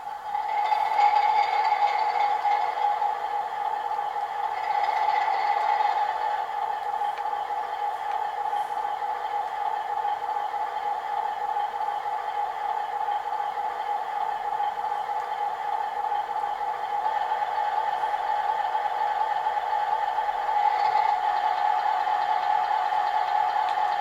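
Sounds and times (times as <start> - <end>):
diesel engine running through small speaker: 0.0 - 24.0.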